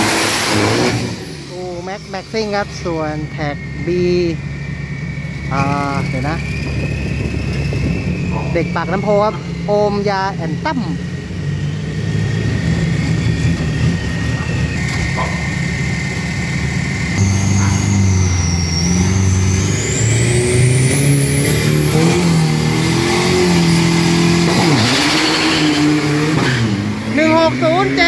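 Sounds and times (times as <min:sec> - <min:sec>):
turbo engine revving: 0:00.0 - 0:28.0
turbo whistle rising in pitch: 0:00.0 - 0:28.0.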